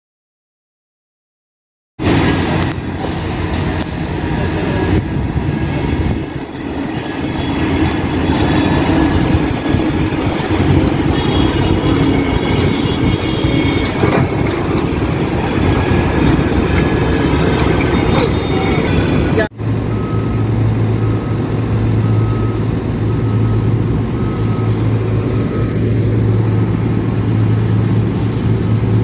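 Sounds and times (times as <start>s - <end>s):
excavator diesel engine running: 2.0s - 29.0s.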